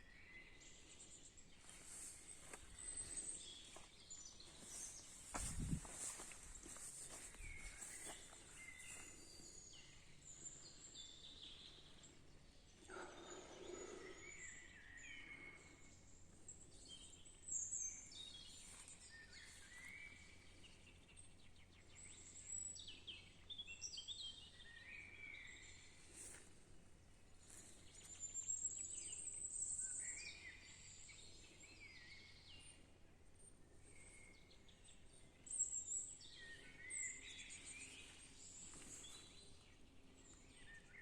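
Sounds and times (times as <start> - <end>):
faint songbirds chirping: 0.0 - 41.0.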